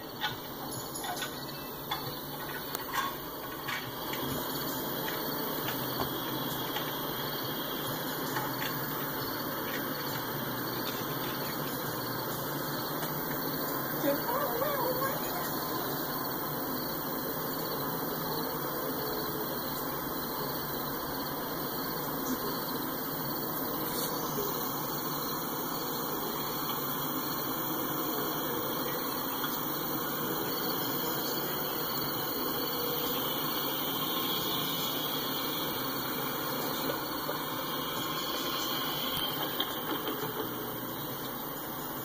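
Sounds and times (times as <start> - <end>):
steel wheels running on rails: 0.0 - 42.0.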